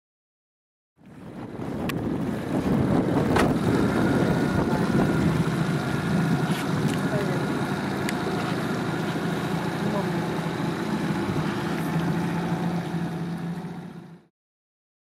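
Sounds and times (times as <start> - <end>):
water and wind noise: 1.0 - 14.2
boat motor humming: 1.0 - 14.3.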